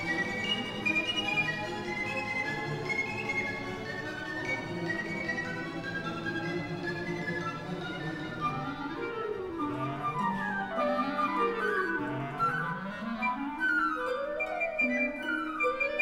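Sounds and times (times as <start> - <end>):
flutes and clarinets playing runs: 0.0 - 16.0.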